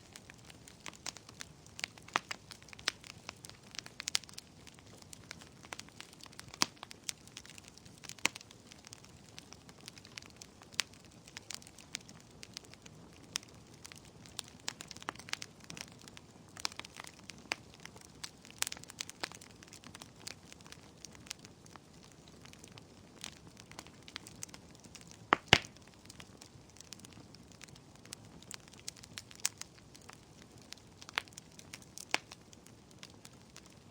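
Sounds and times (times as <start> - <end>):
bonfire crackling and popping: 0.0 - 33.9.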